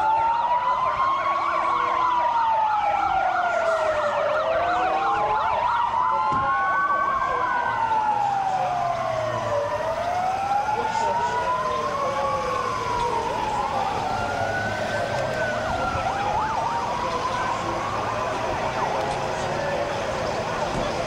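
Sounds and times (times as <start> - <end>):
emergency vehicle sirens wailing: 0.0 - 21.0.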